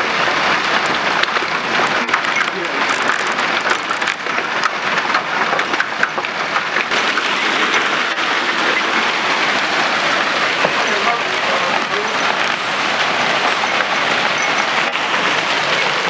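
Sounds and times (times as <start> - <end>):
hailstones clicking: 0.0 - 16.0
heavy rain hissing: 0.0 - 16.0.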